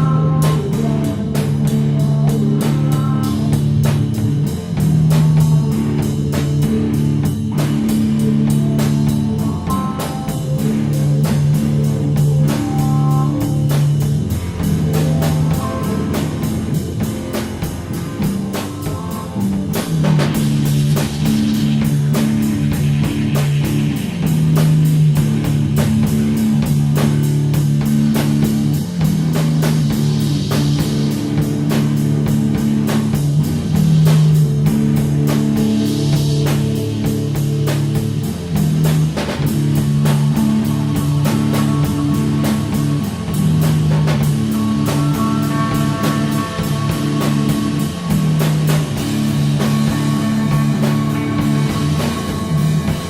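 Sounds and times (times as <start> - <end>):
drum kit beat: 0.0 - 53.0
rock guitars playing riff: 0.0 - 53.0.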